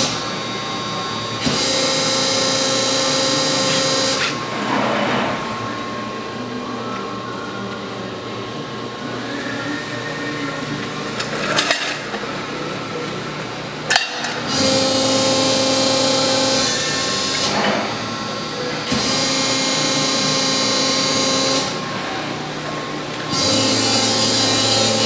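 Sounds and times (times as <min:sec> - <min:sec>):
hydraulic pump humming: 0:00.0 - 0:25.0
hydraulic whine: 0:00.0 - 0:25.0.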